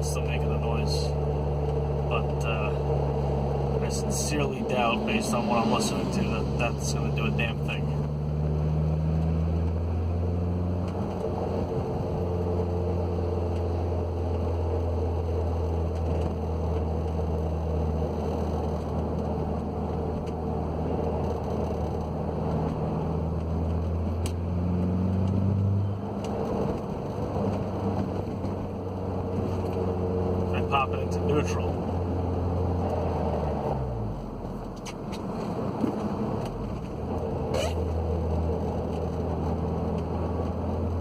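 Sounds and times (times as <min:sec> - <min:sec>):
car engine humming inside car: 0:00.0 - 0:41.0.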